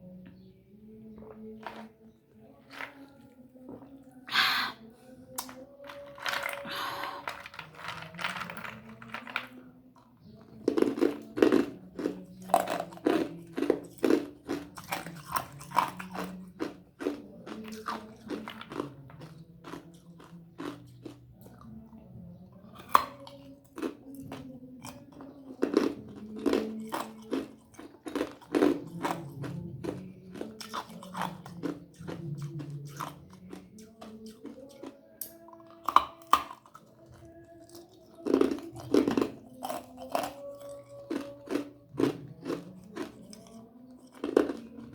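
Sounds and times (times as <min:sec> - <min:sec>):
ice crunching between teeth: 0:05.4 - 0:09.6, 0:10.6 - 0:21.2, 0:22.8 - 0:44.9.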